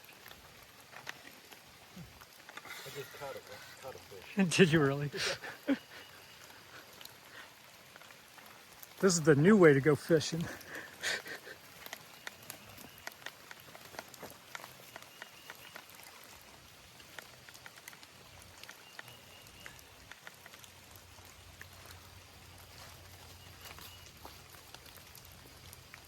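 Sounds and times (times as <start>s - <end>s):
rain drops ticking: 0.0s - 26.0s
soft rain patter: 0.0s - 26.0s.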